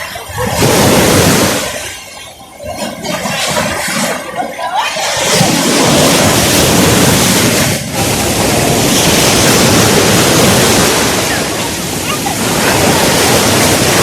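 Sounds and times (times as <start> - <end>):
loud steady rushing noise: 0.0 - 14.0.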